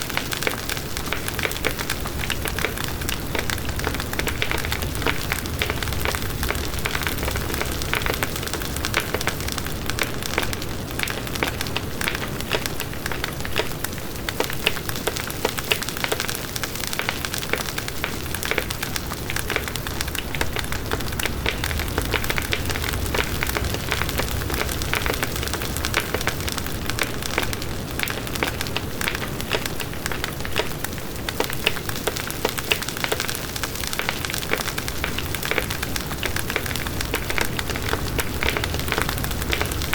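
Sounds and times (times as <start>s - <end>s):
campfire crackling and popping: 0.0s - 39.9s
low rumble of flames: 0.2s - 15.7s, 17.0s - 39.9s.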